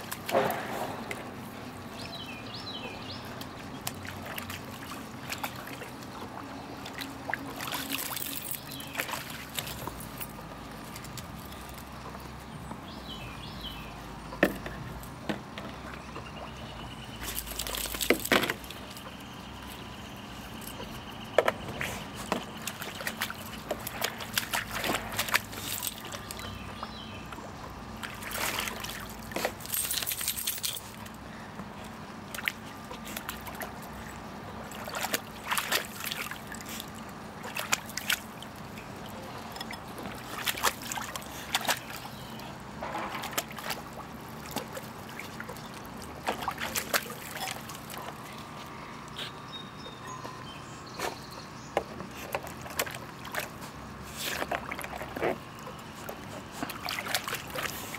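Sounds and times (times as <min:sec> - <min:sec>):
puppy splashing in water: 0:00.0 - 0:13.8, 0:15.8 - 0:31.2, 0:32.2 - 0:49.4, 0:51.0 - 0:57.9.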